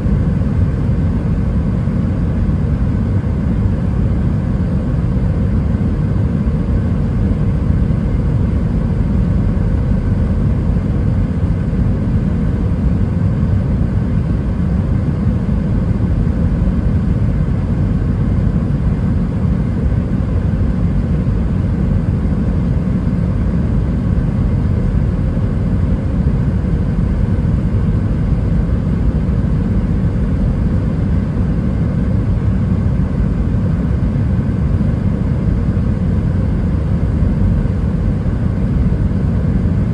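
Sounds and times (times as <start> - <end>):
airliner cabin rumble: 0.0 - 39.9
faint steady hum: 0.0 - 39.9.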